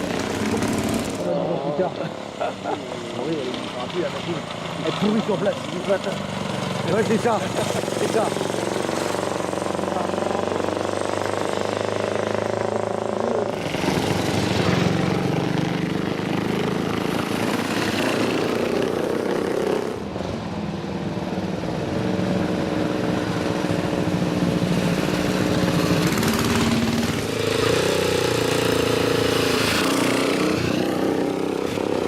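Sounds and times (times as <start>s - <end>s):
motorcycle engines running: 0.0s - 32.0s
rough loud engine: 0.0s - 32.0s.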